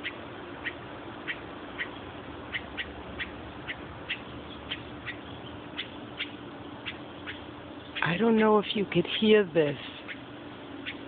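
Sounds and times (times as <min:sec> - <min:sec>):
bird squawking: 0:00.0 - 0:08.5, 0:09.8 - 0:11.0.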